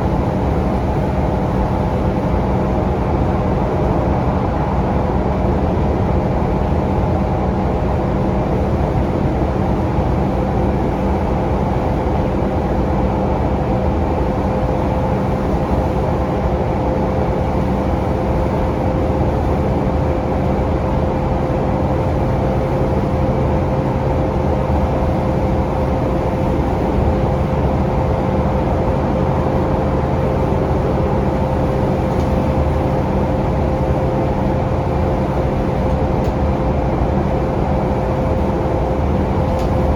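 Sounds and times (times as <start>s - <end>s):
bus engine and road noise: 0.0s - 39.9s
constant whine: 0.0s - 39.9s.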